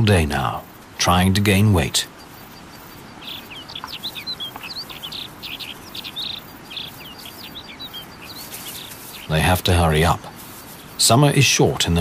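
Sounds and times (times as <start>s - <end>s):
faint outdoor ambience: 0.0s - 12.0s
small birds chirping: 0.0s - 12.0s.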